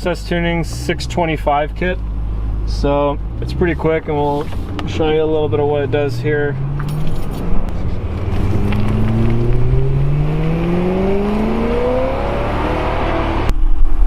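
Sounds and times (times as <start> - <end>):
car engine accelerating hard: 0.3 - 13.5.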